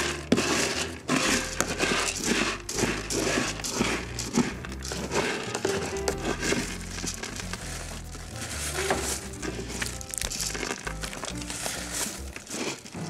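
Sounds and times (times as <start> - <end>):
rustling and crinkling: 0.0 - 13.0.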